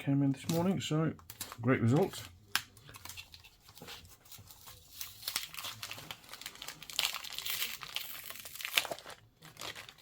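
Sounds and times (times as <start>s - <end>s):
packaging crinkling and rustling: 0.3s - 10.0s.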